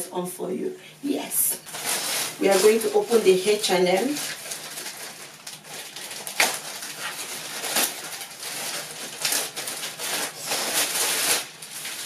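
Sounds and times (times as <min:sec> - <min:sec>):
packaging rustling and crinkling: 0:01.2 - 0:12.0
packaging tearing and crumpling: 0:01.5 - 0:12.0.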